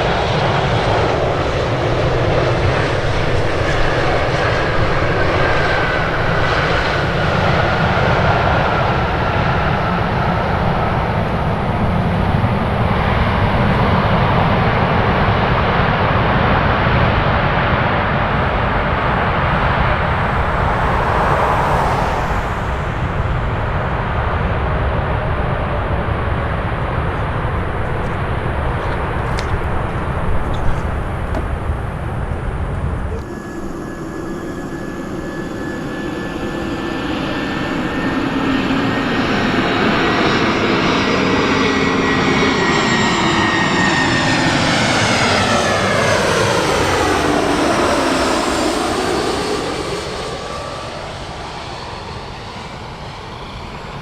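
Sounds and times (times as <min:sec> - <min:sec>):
jet engines rumbling: 0:00.0 - 0:54.0
jet passing by whining: 0:00.0 - 0:54.0.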